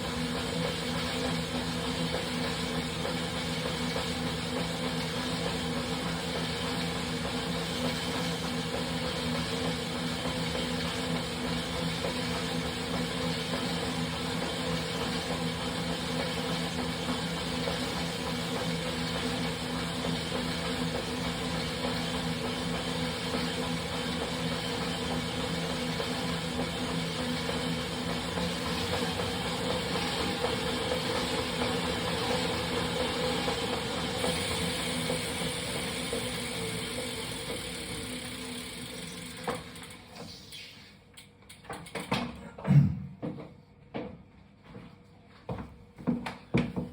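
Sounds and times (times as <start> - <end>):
bike roller trainer whirring: 0.0 - 42.4.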